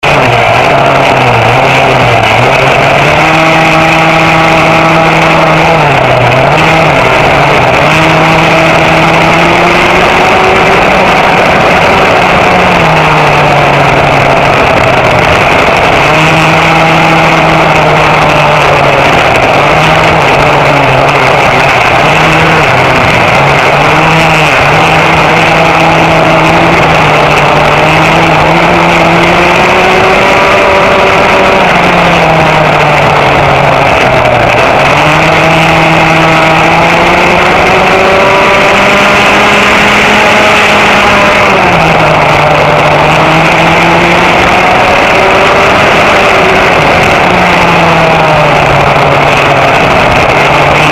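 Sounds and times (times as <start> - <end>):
kart engine revving: 0.0 - 50.9.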